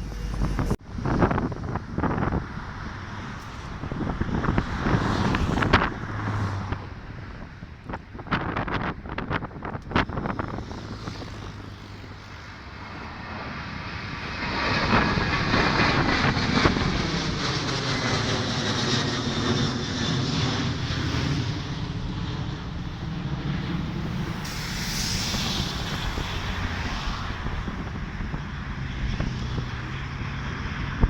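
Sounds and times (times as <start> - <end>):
airplane engines passing: 0.0 - 31.0.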